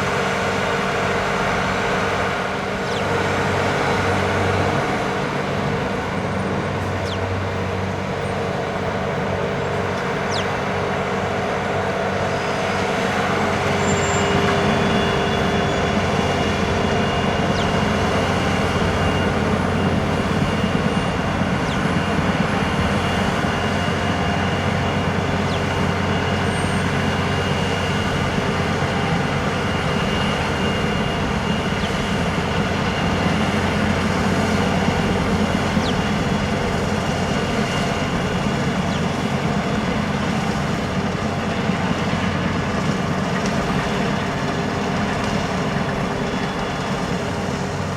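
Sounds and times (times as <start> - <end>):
heavy vehicle engine running: 0.0 - 47.9
road noise: 0.0 - 47.9.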